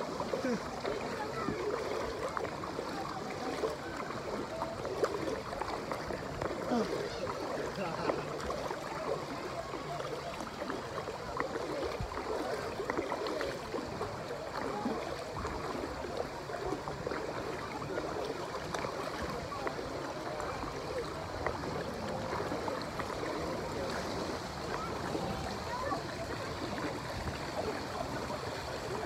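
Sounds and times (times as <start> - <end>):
water flowing and lapping: 0.0 - 29.0.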